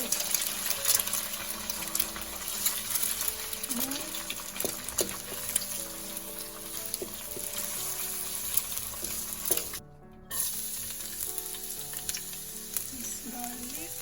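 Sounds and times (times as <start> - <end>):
hot oil sizzling in a pan: 0.0 - 14.0.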